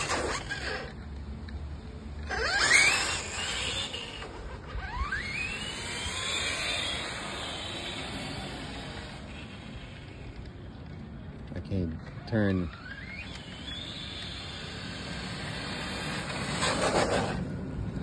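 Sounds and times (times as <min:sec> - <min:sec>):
electric motor and gear whine: 0:00.0 - 0:18.0.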